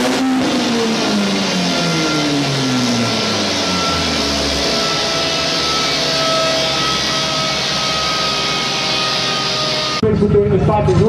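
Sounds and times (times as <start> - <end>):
car engine rushing at constant revs: 0.0 - 10.0
faint whine: 0.8 - 10.3.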